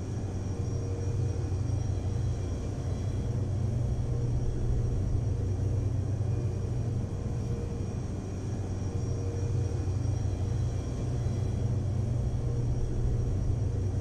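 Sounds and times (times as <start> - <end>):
faint whining tones: 0.0 - 14.0
low rumbling hum: 0.0 - 14.0.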